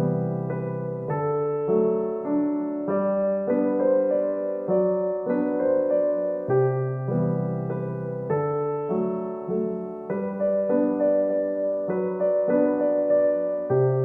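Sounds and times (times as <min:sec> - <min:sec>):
instrumental music: 0:00.0 - 0:14.0.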